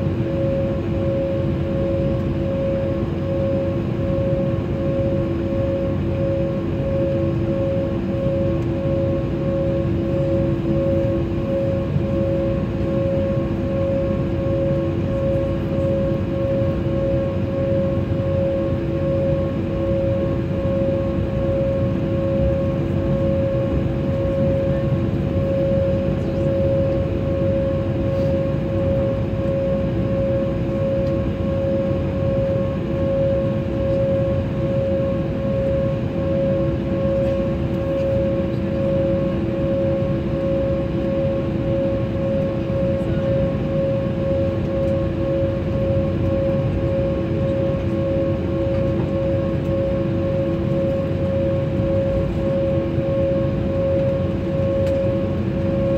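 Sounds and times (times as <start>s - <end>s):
jet cabin whine: 0.0s - 55.9s.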